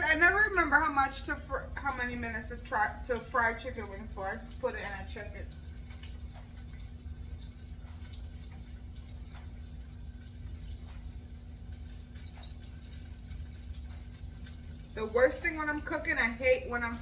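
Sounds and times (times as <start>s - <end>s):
oil popping: 0.0s - 17.0s
wings sizzling in hot oil: 0.0s - 17.0s.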